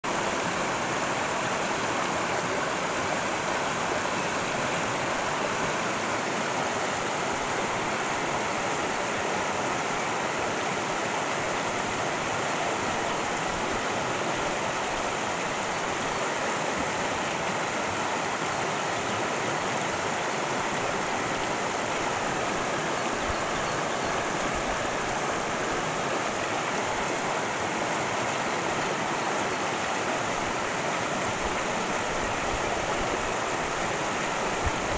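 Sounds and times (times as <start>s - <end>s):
creek water rushing: 0.0s - 34.9s.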